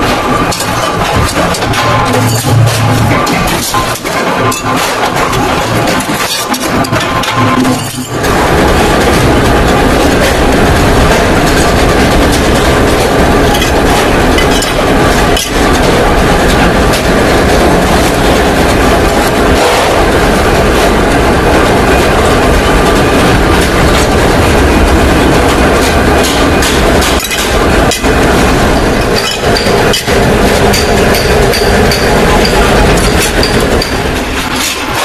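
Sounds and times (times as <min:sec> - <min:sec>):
workshop machinery rattling: 0:00.0 - 0:35.0.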